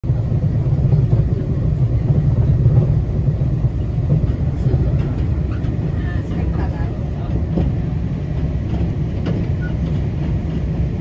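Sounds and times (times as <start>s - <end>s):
train rumble from inside: 0.0s - 11.0s.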